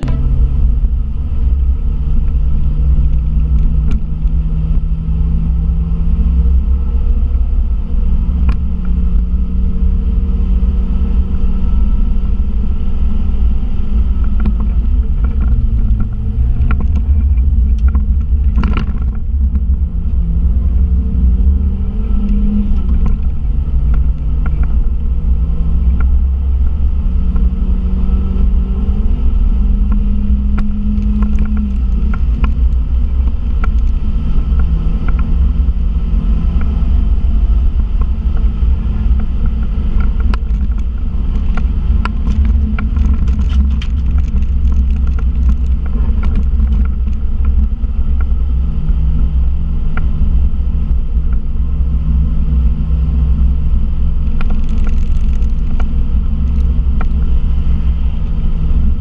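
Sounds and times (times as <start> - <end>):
car engine revving: 0.0 - 59.0
road and wind rumble: 0.0 - 59.0.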